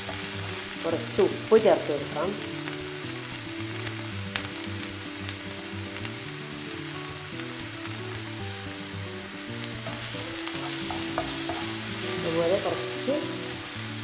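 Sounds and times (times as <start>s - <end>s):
chicken sizzling in hot oil: 0.0s - 14.0s
soft background music: 0.0s - 14.0s.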